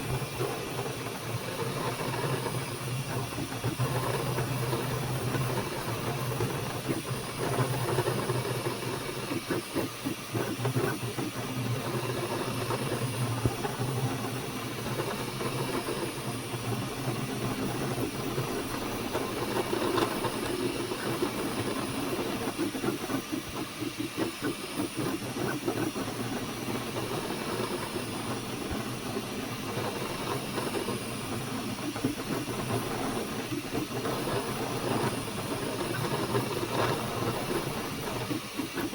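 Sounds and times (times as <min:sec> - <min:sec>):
cooling fans hissing: 0:00.0 - 0:38.9.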